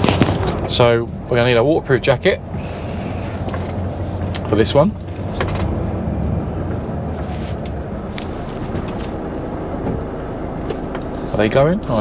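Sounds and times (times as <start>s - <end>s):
lorry engine rumbling: 0.0s - 12.0s.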